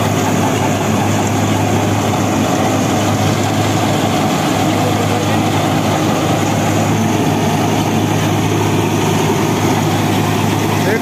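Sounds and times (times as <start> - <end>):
reaper machinery running: 0.0 - 11.0
tractor engine running: 0.0 - 11.0.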